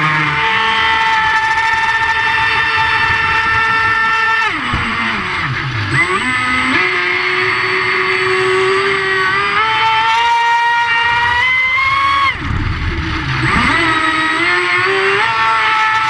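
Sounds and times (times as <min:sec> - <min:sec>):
model race boat motor whine: 0:00.0 - 0:16.0.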